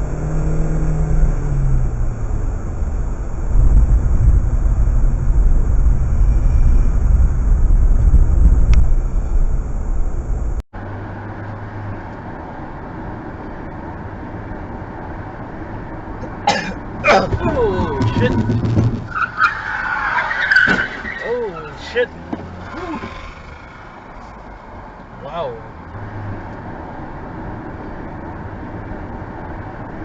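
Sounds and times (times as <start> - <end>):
car engine and road noise: 0.0 - 30.0
quieter road noise of car: 0.0 - 30.0.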